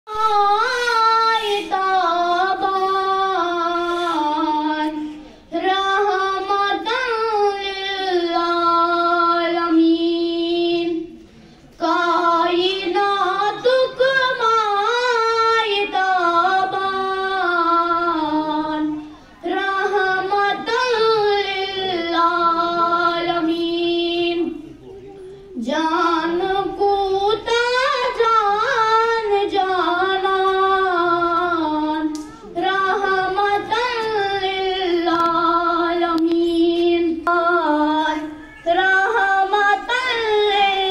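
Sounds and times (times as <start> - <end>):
girl singing devotional song: 0.1 - 24.8, 25.5 - 40.9.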